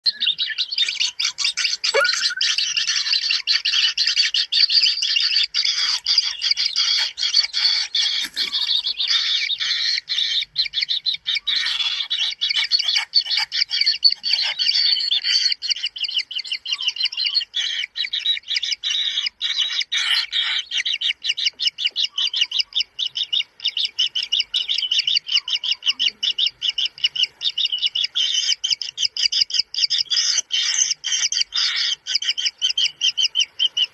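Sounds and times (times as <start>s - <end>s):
bird chick rasping chirps: 0.1s - 33.9s.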